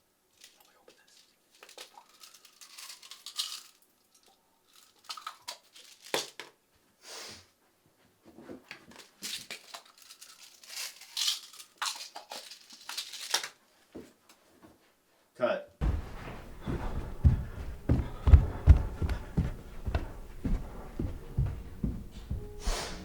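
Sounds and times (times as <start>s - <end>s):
crinkling and rustling: 0.3s - 6.7s, 8.1s - 14.8s, 15.8s - 23.0s.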